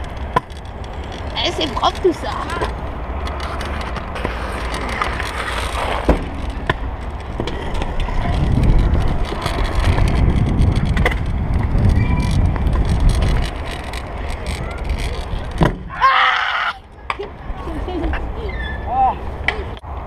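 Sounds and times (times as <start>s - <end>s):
scooter wheels rolling on concrete: 0.0s - 20.0s.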